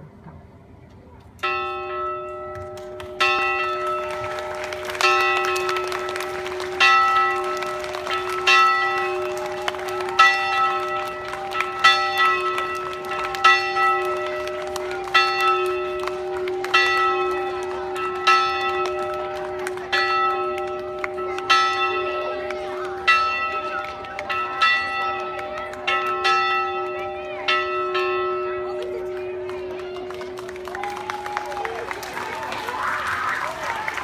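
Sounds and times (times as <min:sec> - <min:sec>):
large bell ringing: 0:01.4 - 0:30.8.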